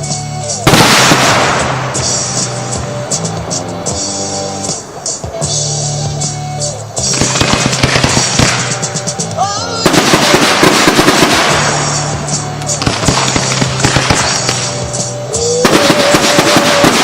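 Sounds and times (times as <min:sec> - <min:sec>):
fireworks popping and crackling: 0:00.0 - 0:06.3, 0:07.0 - 0:17.0.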